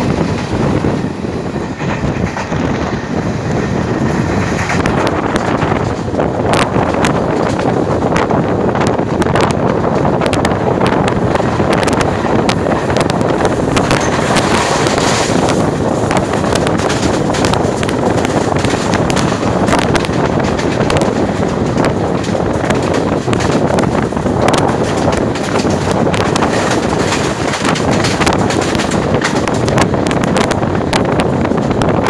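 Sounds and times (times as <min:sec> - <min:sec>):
train running noise: 0:00.0 - 0:32.0
train wheels clicking and rattling: 0:00.0 - 0:32.0
wind buffeting microphone: 0:00.0 - 0:32.0.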